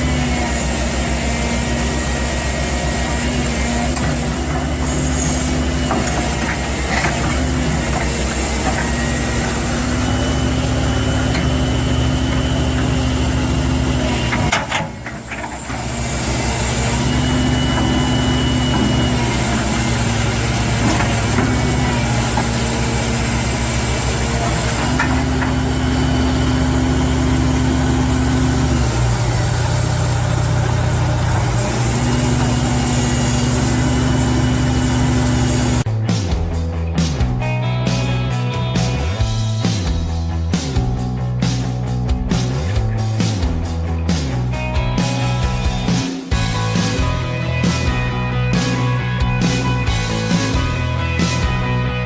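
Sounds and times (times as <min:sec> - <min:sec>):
heavy machinery engine running: 0:00.0 - 0:52.0.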